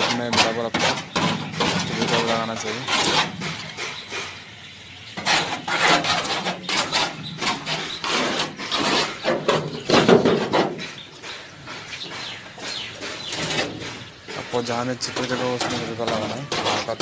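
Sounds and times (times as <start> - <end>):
thin metal sheet flexing: 0.0 - 4.3, 5.2 - 11.0, 13.0 - 17.0
brush scraping sheet metal: 0.0 - 17.0.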